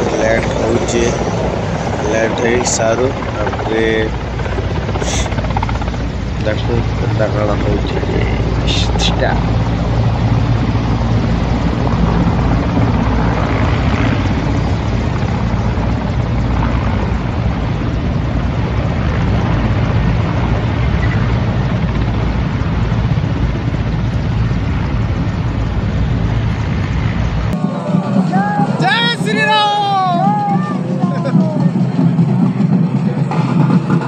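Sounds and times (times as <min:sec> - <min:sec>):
helicopter rotor and engines: 0:00.0 - 0:34.0.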